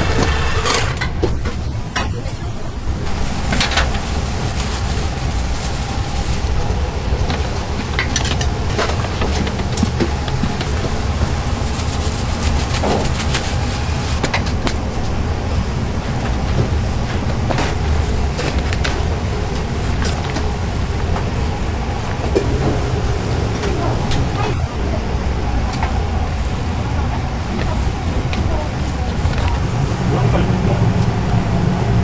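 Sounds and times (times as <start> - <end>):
low machine rumble: 0.0 - 32.0.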